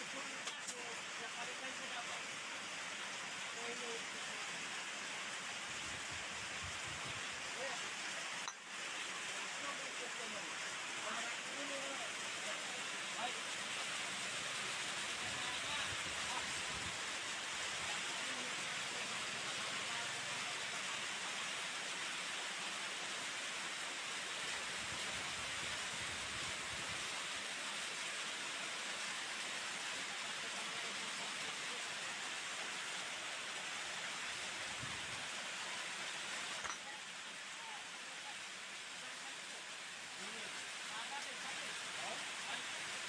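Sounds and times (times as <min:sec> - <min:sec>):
steady background hiss: 0:00.0 - 0:43.0.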